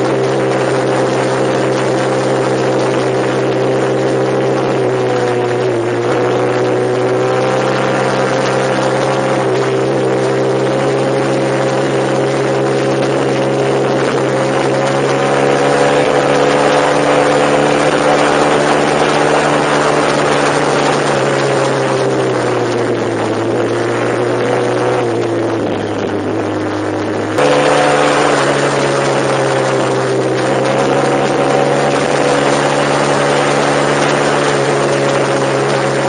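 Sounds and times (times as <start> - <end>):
road and wind noise: 0.0 - 36.0
vehicle engine running: 0.0 - 36.0.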